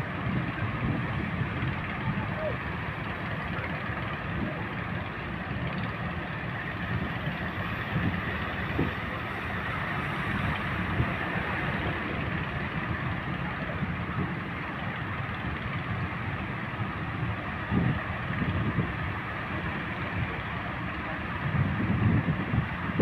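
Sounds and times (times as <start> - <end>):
ocean waves breaking: 0.0 - 21.7.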